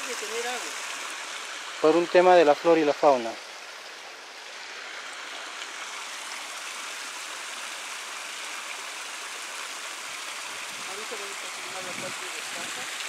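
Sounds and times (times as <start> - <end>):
water running over stones: 0.0 - 13.0.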